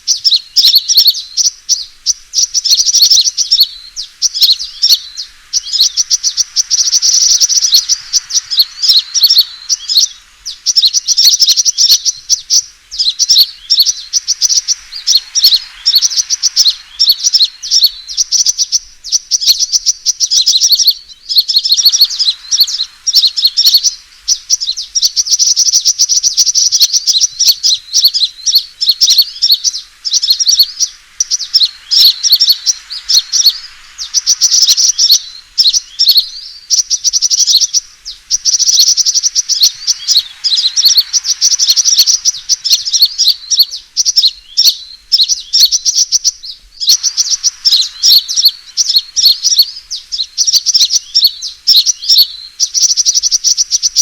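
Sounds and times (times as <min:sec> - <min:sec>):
sunbird chirps and trills: 0:00.0 - 0:54.0.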